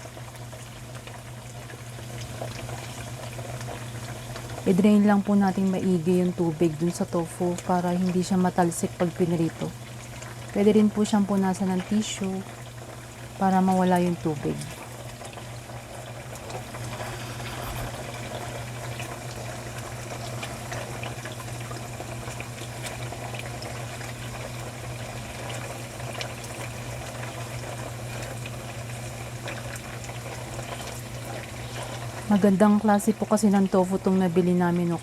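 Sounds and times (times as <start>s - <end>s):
tofu frying in hot oil: 0.0s - 35.0s.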